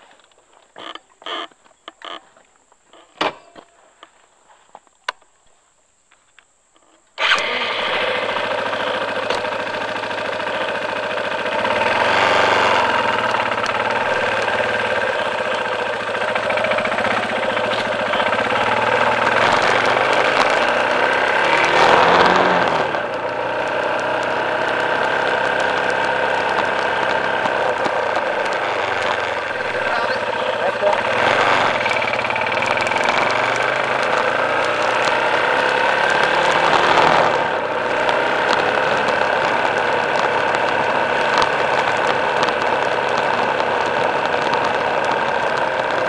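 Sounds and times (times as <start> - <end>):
vehicle engine starting and running: 7.2 - 46.0.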